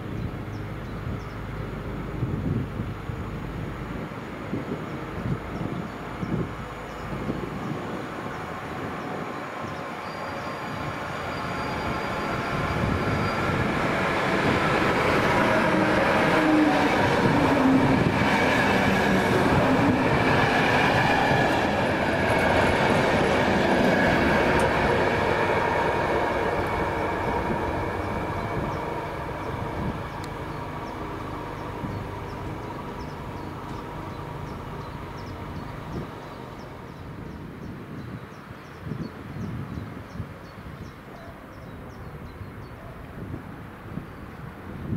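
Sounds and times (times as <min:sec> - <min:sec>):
train wheels rumbling on rails: 0:00.3 - 0:37.8.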